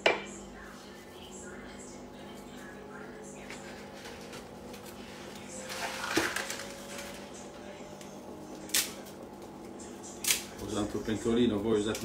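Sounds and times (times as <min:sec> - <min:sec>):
stove humming: 0:00.0 - 0:12.0.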